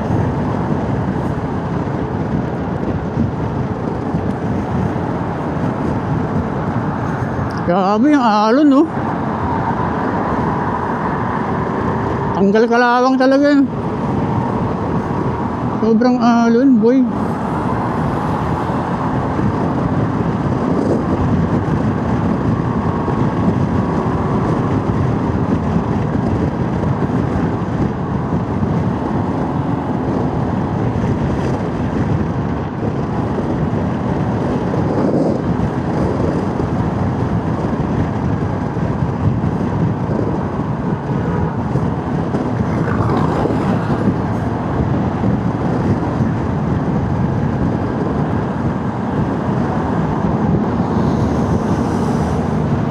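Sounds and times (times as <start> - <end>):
motorcycle engine and road noise: 0.0 - 52.9
wind on microphone: 0.0 - 52.9.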